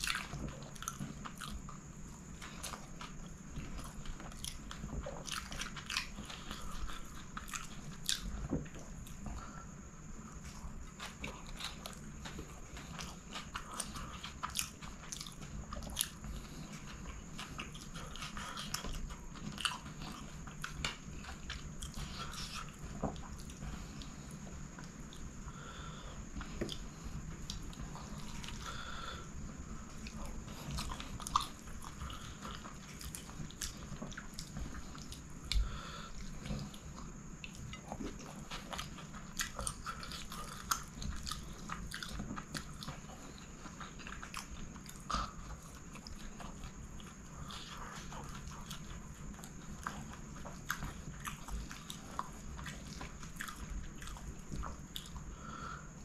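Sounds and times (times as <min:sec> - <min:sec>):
man chewing food: 0:00.0 - 0:56.0.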